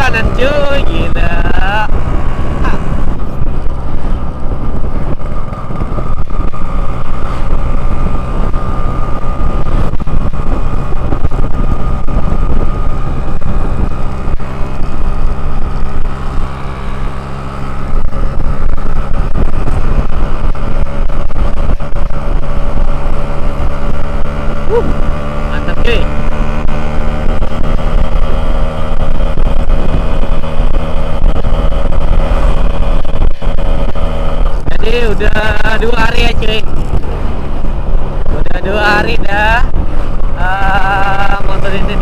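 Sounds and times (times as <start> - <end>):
two-stroke motorcycle engine running: 0.0 - 42.0.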